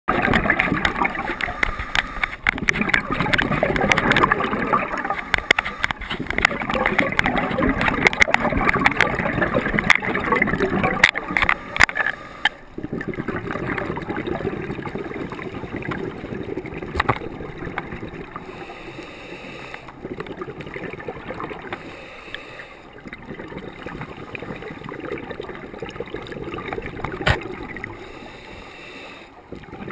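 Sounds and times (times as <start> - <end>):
underwater bubbles rushing and gurgling: 0.1 - 29.9.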